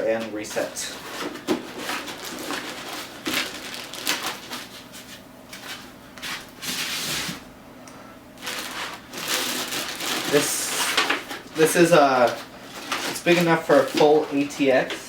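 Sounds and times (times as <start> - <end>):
packaging rustling: 0.0 - 7.4, 8.4 - 15.0.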